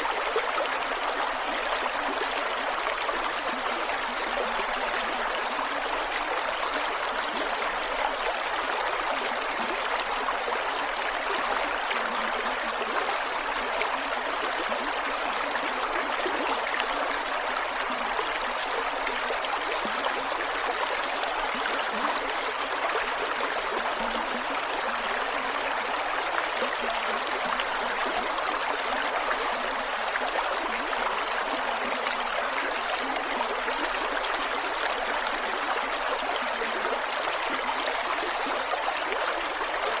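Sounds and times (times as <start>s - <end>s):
creek water flowing over rocks: 0.0s - 40.0s.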